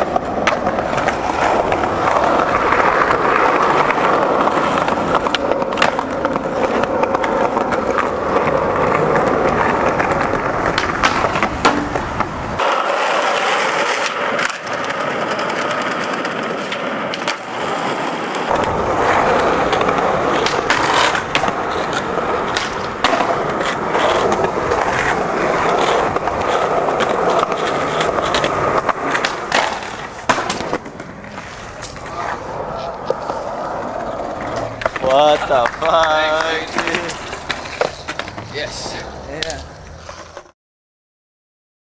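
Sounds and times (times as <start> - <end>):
skateboard clacks: 0.0 - 40.5
skateboard wheels rolling on concrete: 0.0 - 40.6.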